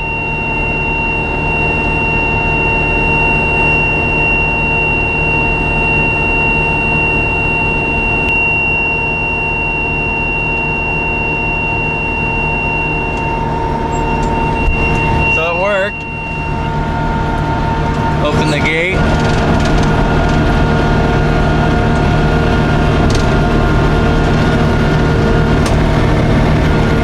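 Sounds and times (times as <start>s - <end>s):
high whine: 0.0s - 27.0s
tractor engine drone: 0.0s - 27.0s.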